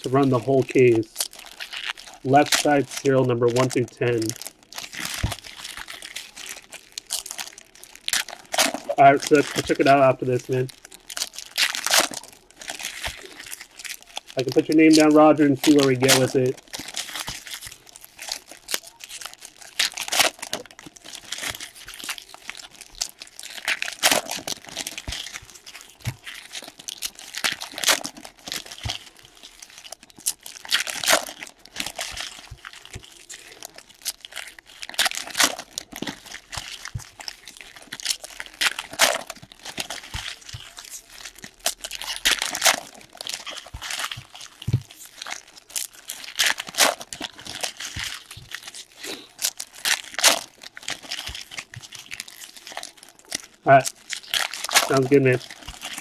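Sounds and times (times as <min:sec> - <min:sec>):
foil wrappers crinkling and tearing: 0:00.0 - 0:56.0.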